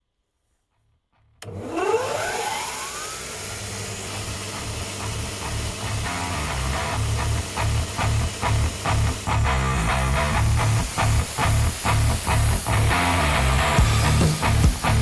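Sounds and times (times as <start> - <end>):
belt grinder motor whining: 1.4 - 15.0
grinder belt hissing: 1.6 - 15.0.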